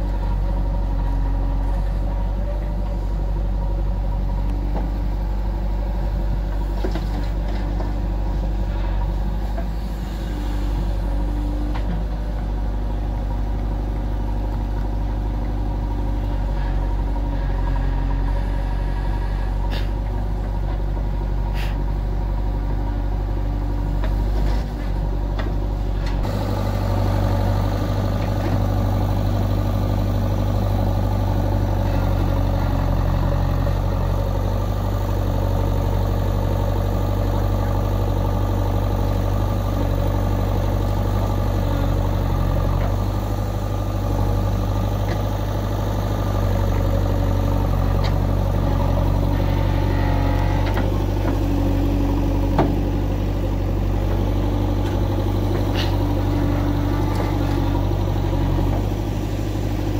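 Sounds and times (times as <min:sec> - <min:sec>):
diesel engine running: 0:00.0 - 0:59.9
tractor engine running: 0:00.0 - 0:59.9
backhoe digging soil: 0:06.3 - 0:59.9.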